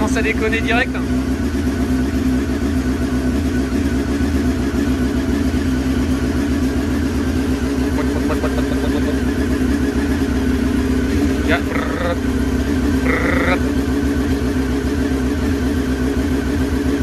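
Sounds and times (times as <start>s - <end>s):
motorcycle engine idling unevenly: 0.0s - 17.0s.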